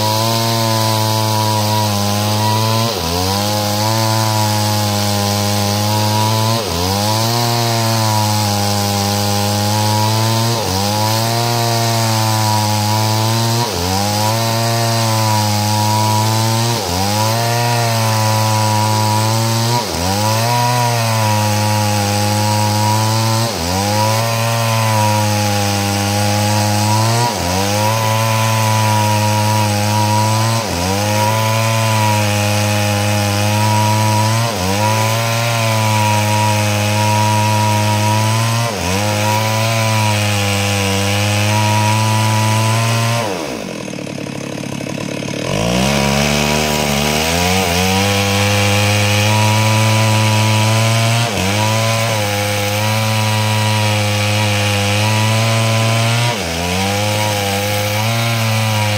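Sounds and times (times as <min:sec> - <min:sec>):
chainsaw ripping log: 0:00.0 - 0:58.9.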